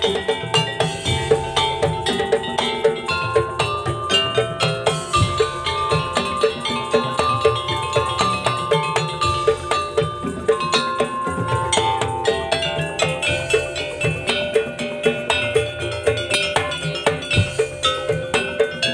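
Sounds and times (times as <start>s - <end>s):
struck metal percussion: 0.0s - 18.9s
wooden slit drums and drums: 0.0s - 18.9s.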